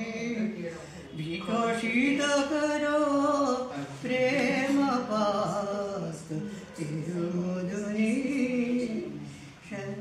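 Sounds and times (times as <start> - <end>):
person singing unaccompanied: 1.3 - 10.0.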